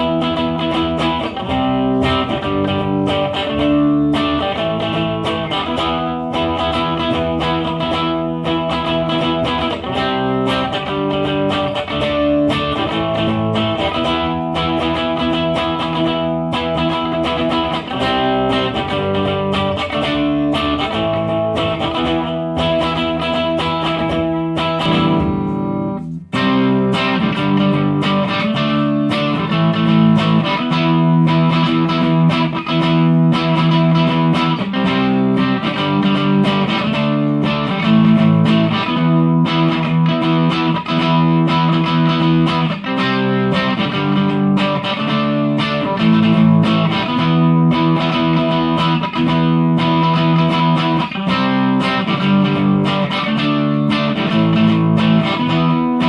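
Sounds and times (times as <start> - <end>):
electric guitar playing chords: 0.0 - 56.0.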